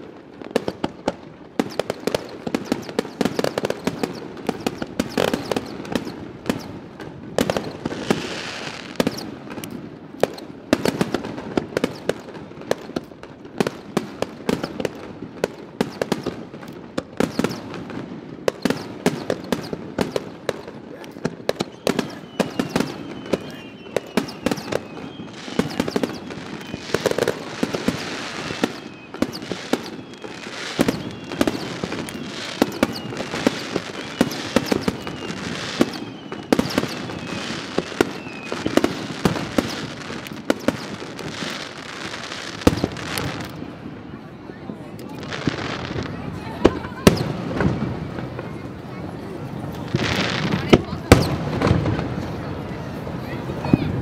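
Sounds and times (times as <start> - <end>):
firework shells bursting: 0.4 - 43.6
firework whistles: 0.4 - 54.0.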